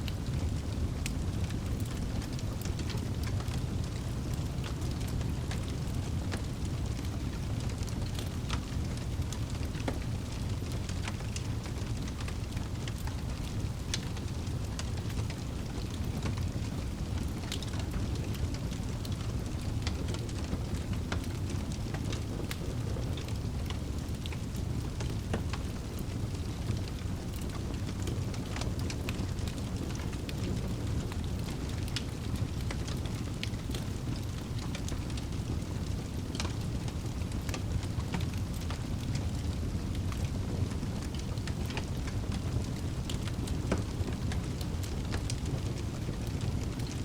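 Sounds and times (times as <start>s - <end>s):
fire flames rumbling: 0.0s - 47.0s
logs crackling and popping: 0.0s - 47.0s.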